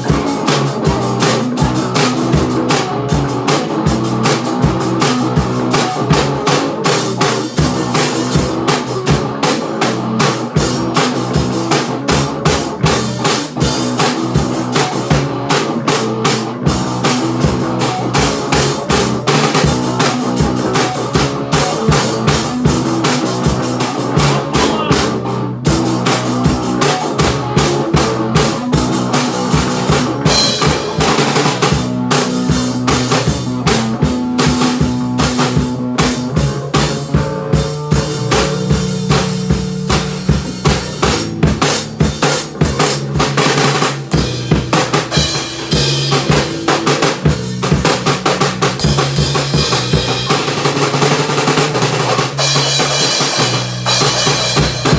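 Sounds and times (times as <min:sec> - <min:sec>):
drum kit hits: 0:00.0 - 0:54.9
electric bass: 0:00.0 - 0:54.9
electric guitar notes: 0:00.0 - 0:54.9.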